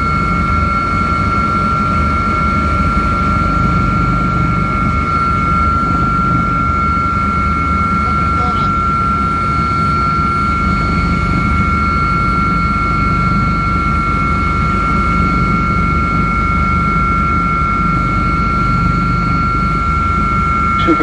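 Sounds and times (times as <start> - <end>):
helicopter rotor rumble: 0.0 - 21.0
high whine: 0.0 - 21.0.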